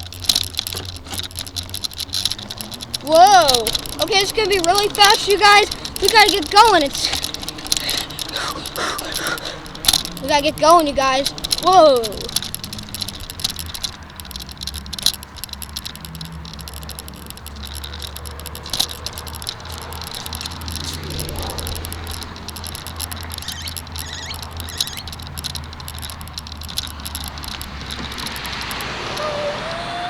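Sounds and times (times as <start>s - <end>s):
bicycle clicks and rattles: 0.0s - 30.0s.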